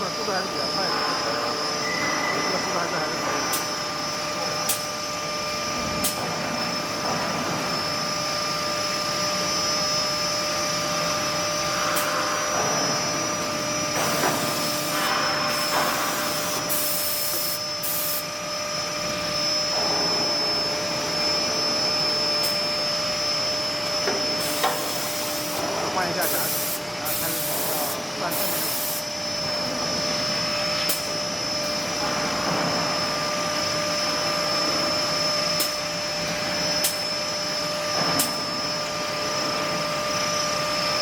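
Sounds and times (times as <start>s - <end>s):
noisy machine rush: 0.0s - 41.0s.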